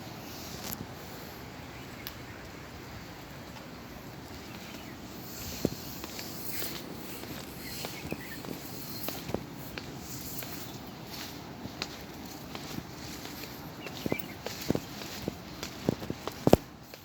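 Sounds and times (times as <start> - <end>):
outdoor background noise: 0.0 - 17.0
footsteps on a path: 1.9 - 17.0.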